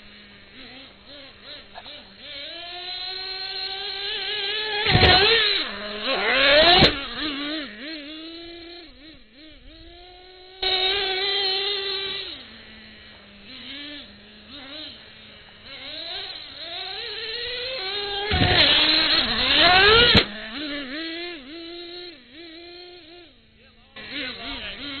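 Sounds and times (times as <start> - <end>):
nitro engine buzzing whine: 0.0 - 25.0.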